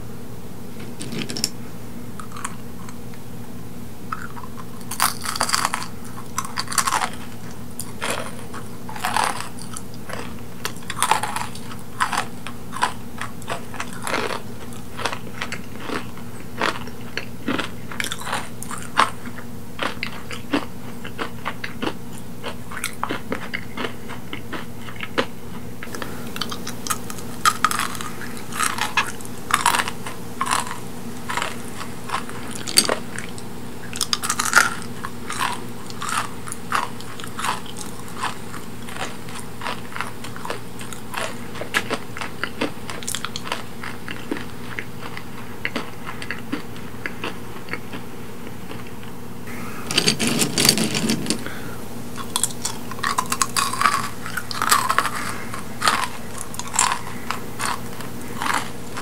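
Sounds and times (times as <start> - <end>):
crunching jelly candy: 2.2 - 3.1, 4.1 - 59.0.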